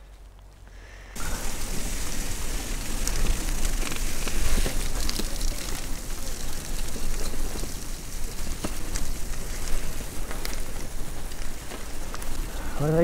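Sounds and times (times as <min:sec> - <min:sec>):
bicycle tyres rolling on gritty trail: 0:00.0 - 0:13.0.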